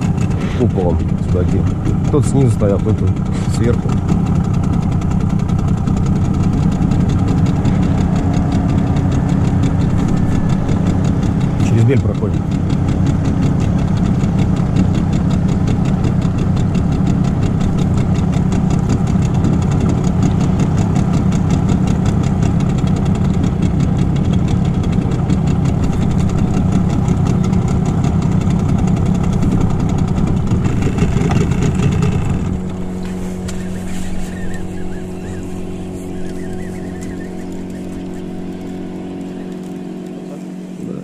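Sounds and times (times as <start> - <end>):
outboard motor running: 0.0 - 41.0.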